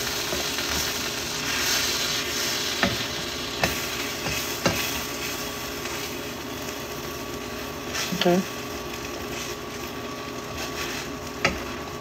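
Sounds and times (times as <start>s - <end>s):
frying sizzle: 0.0s - 12.0s.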